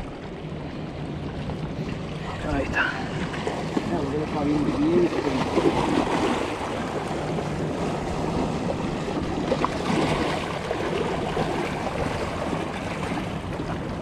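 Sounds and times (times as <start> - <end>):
waves splashing against rocks: 0.0 - 14.0
wind buffeting microphone: 0.0 - 14.0.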